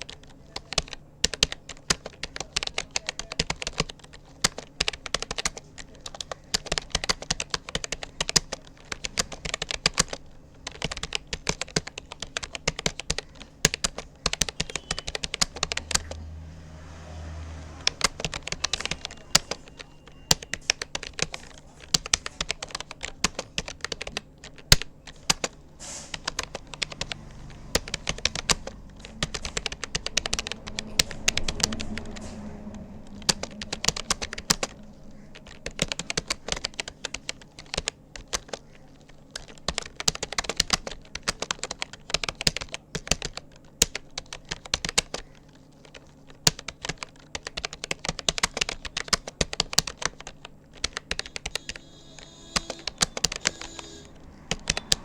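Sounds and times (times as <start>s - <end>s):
fast typing on keyboard: 0.0s - 55.0s.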